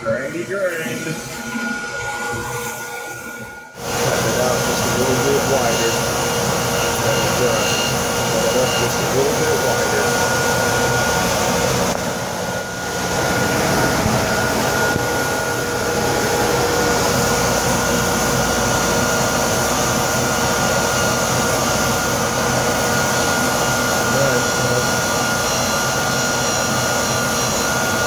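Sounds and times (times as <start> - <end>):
grinder cutting rubber tire: 0.0 - 12.2, 12.9 - 28.0.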